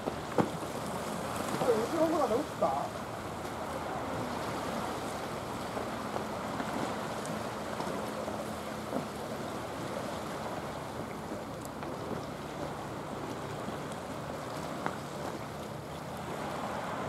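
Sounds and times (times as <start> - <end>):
waves washing against rocks: 0.0 - 17.0.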